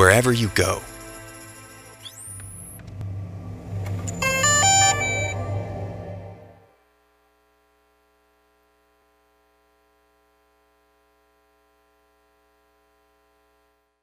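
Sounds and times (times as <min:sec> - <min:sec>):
faint steady hum: 0:02.2 - 0:14.0.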